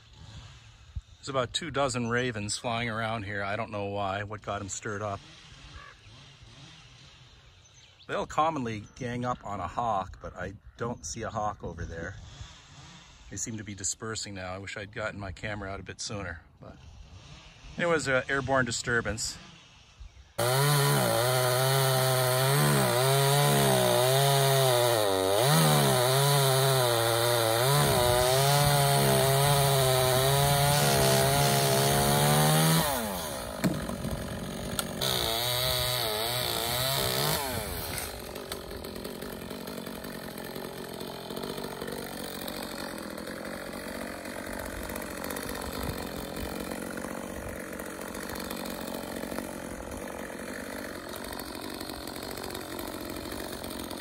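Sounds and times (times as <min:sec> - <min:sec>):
chainsaw cutting: 0:00.0 - 0:01.3, 0:02.2 - 0:07.7, 0:12.2 - 0:13.7, 0:16.6 - 0:54.0.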